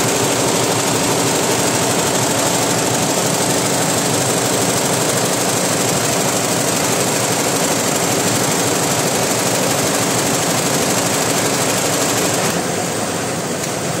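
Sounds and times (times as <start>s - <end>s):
embroidery machine clatter: 0.0s - 12.6s.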